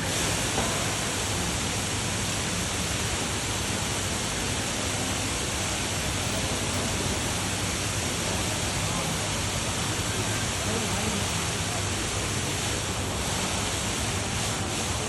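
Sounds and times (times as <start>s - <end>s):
indoor waterfall splashing: 0.0s - 15.0s.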